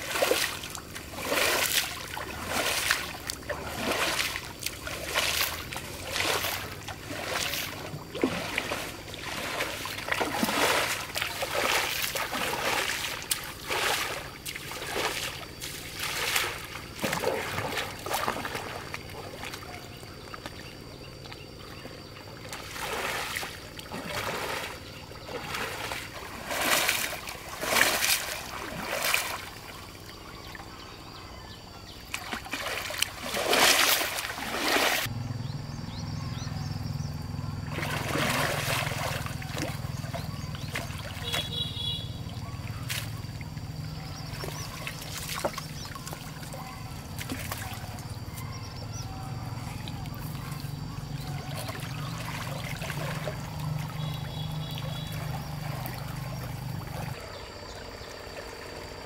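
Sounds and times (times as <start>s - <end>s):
water splashing and sloshing: 0.0s - 35.3s, 36.0s - 59.0s.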